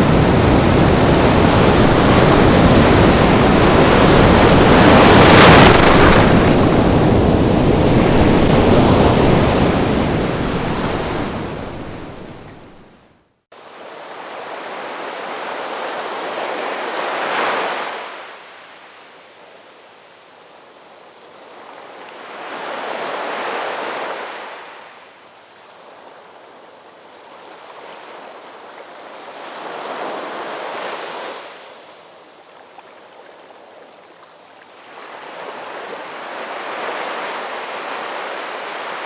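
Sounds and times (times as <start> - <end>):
sea waves breaking on shore: 0.0 - 13.0, 13.6 - 18.8, 21.3 - 25.0, 25.8 - 39.0.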